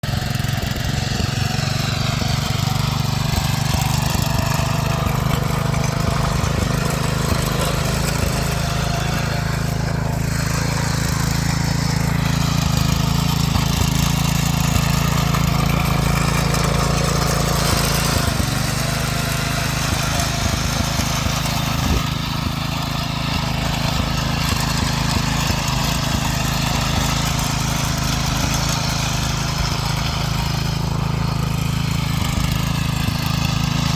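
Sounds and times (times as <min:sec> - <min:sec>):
small petrol engine running: 0:00.0 - 0:33.9.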